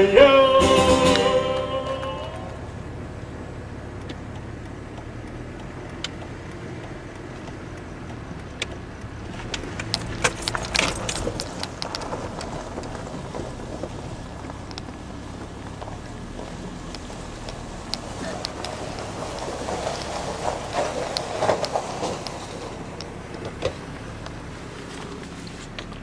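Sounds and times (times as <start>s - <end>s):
car engine rumbling: 0.0s - 26.0s
light clicks and rattles: 4.0s - 26.0s.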